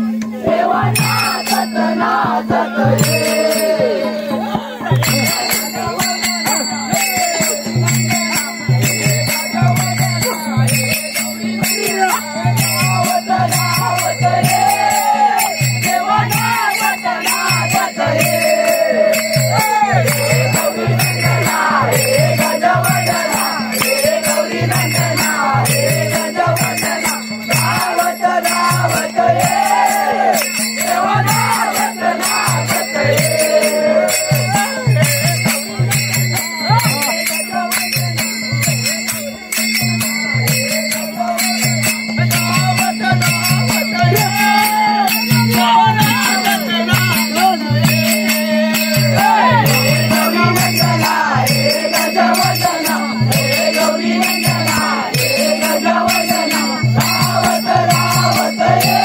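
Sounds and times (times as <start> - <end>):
jingling bell percussion: 0.0 - 59.0
steady drum beat: 0.0 - 59.0
wavering melody: 0.0 - 59.0.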